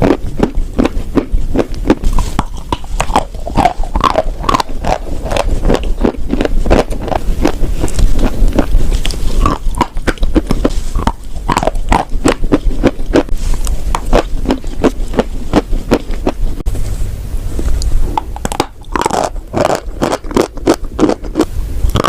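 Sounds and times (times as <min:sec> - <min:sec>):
person chewing and crunching chalk: 0:00.0 - 0:16.6, 0:18.2 - 0:22.0.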